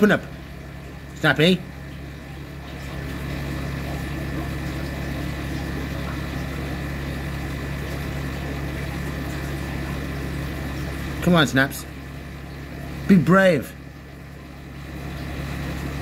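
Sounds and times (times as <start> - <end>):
electric motor hum: 0.0 - 16.0.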